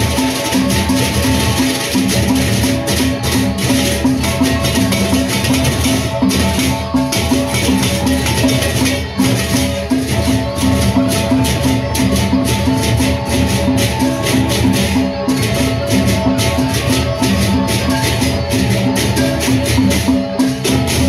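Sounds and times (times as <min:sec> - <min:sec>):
barrel drums beaten: 0:00.0 - 0:21.0
gongs ringing: 0:00.0 - 0:21.0
hand cymbals clashing: 0:00.0 - 0:21.0.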